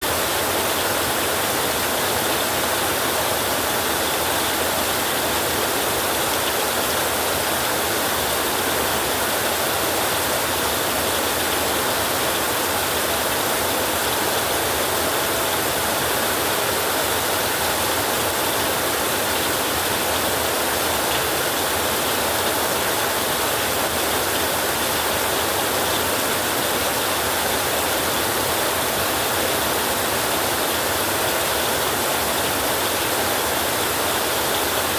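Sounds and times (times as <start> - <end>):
heavy rain on a roof: 0.0 - 34.9.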